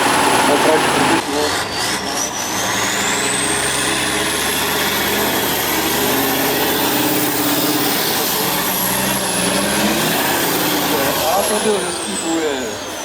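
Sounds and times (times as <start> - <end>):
truck engine under load: 0.0 - 13.0.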